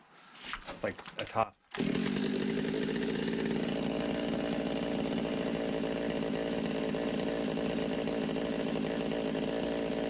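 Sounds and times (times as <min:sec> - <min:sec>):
chainsaw engine idling: 0:01.8 - 0:10.0.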